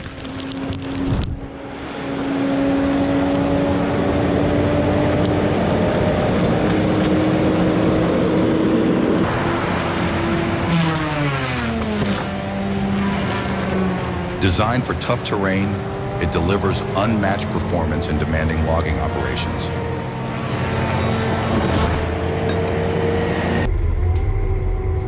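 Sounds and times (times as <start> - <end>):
forestry machine engine working: 0.0 - 25.0.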